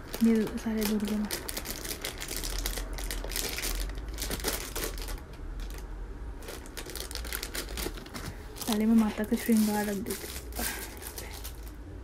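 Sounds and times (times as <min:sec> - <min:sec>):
plastic packaging crinkling: 0:00.0 - 0:05.8, 0:06.4 - 0:11.8.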